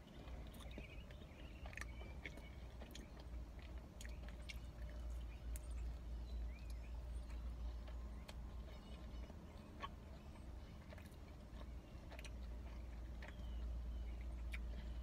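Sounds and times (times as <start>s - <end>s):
chewing food: 0.0s - 15.0s
low hum: 0.0s - 15.0s
faint bird chirps: 0.2s - 15.0s.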